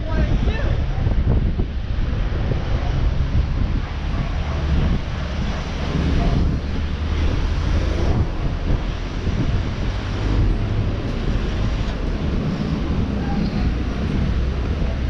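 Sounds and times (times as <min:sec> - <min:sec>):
road traffic passing: 0:00.0 - 0:15.0
wind buffeting microphone: 0:00.0 - 0:15.0.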